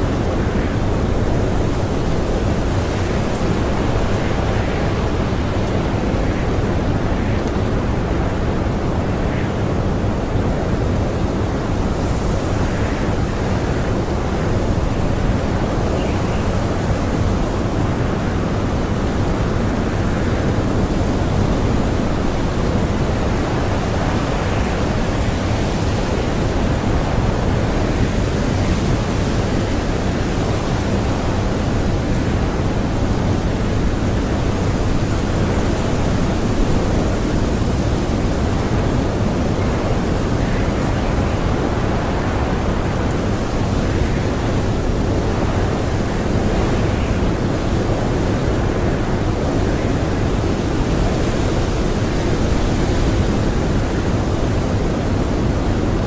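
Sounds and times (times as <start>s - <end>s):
blizzard wind blowing hard: 0.0s - 56.0s.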